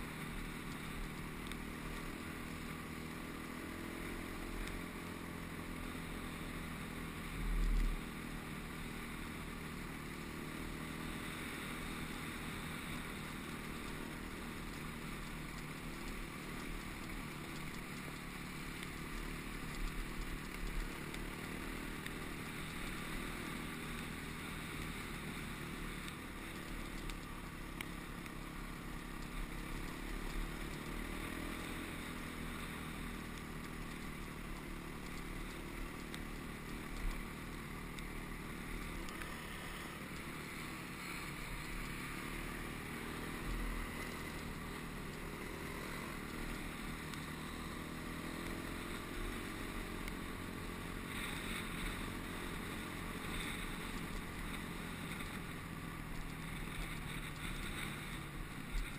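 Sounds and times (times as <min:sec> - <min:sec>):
dirt bike engine running: 0:00.0 - 0:58.9.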